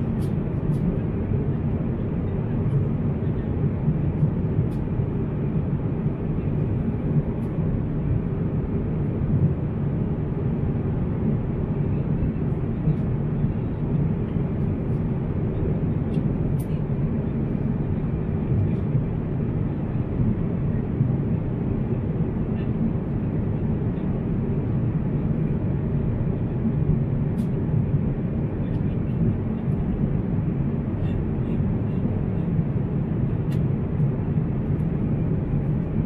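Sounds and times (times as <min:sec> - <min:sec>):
airplane cabin airflow and engine: 0:00.0 - 0:36.0.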